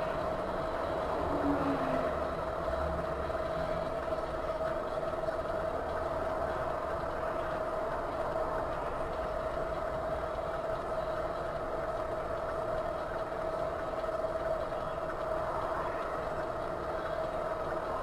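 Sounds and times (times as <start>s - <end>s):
constant tone: 0.0s - 18.0s
vehicle engine and road noise: 0.0s - 18.0s.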